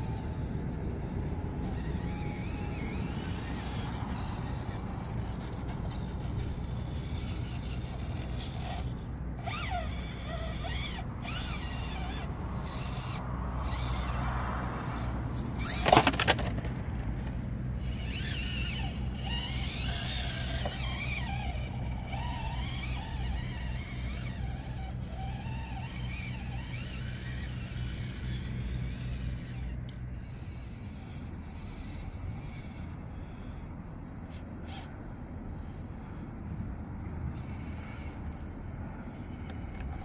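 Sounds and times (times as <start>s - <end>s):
toy car motor and gears whining: 0.0s - 40.0s.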